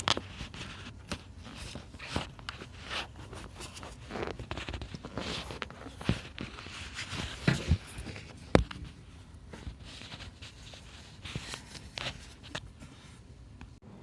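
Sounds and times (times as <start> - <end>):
faint steady background: 0.0 - 14.0.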